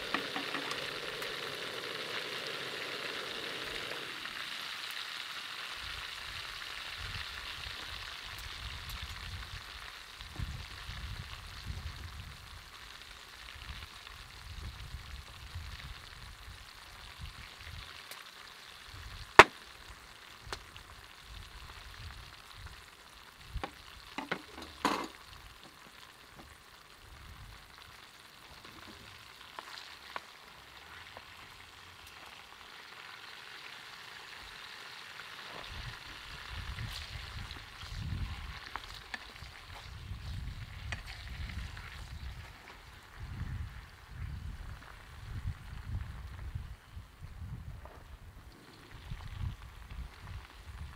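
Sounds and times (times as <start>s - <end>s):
oil sizzling in a pan: 0.0s - 47.0s.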